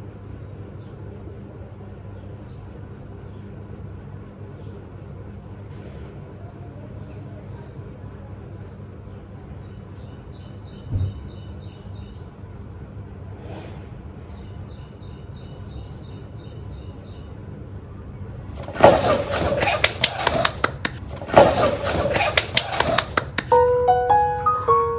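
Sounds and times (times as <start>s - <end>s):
insects chirping: 0.0s - 24.9s.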